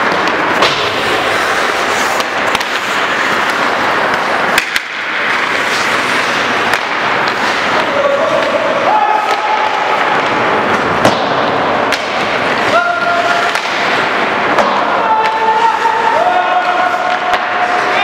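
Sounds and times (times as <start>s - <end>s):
skates scraping on ice: 0.0s - 18.0s
sticks clacking on puck: 0.0s - 18.0s.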